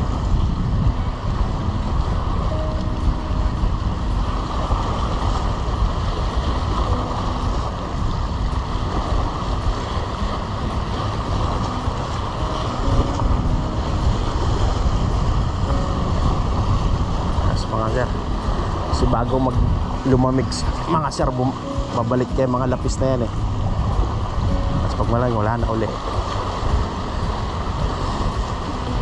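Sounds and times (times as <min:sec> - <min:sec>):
sea waves washing against rocks: 0:00.0 - 0:29.0
wind buffeting microphone: 0:00.0 - 0:29.0.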